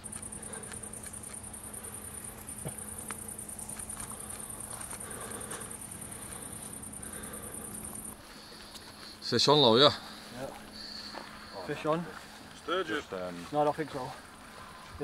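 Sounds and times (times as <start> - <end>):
crickets trilling: 0.0 - 15.0
faint low hum: 0.0 - 15.0.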